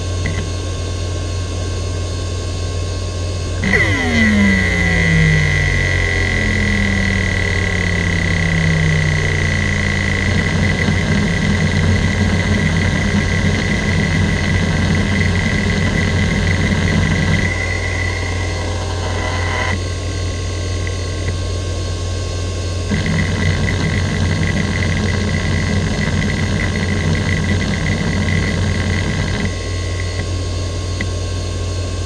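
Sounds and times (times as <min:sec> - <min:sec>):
hard drive seek buzzing: 0:00.0 - 0:21.9, 0:22.6 - 0:31.9
hard drive high whine: 0:00.0 - 0:32.0.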